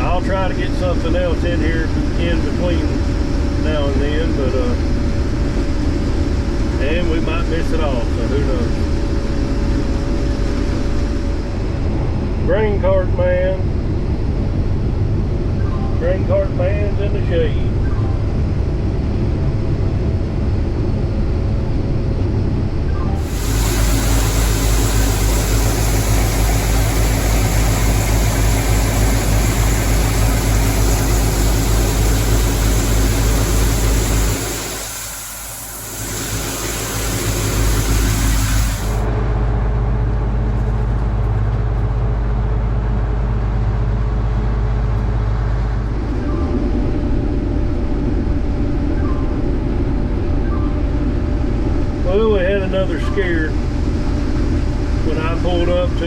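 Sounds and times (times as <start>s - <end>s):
loud mechanical noise: 0.0s - 56.0s
low engine hum: 0.0s - 56.0s.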